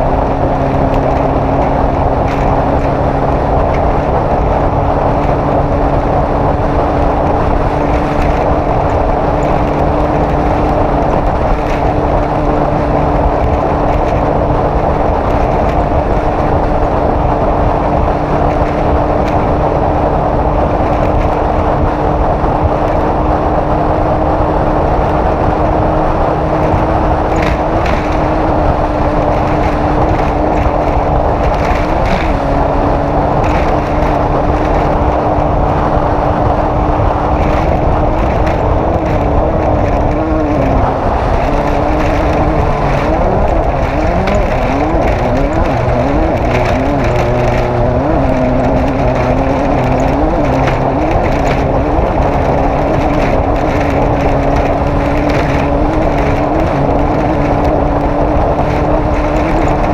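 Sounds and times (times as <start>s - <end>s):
race vehicle engine revving: 0.0s - 59.9s.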